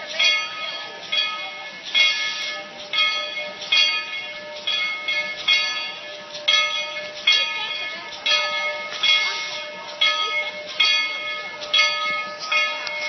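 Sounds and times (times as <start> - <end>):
steam locomotive bell ringing: 0.0 - 13.0.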